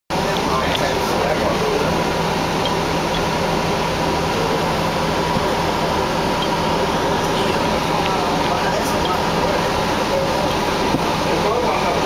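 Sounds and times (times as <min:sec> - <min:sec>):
bus driving through water: 0:00.1 - 0:12.0.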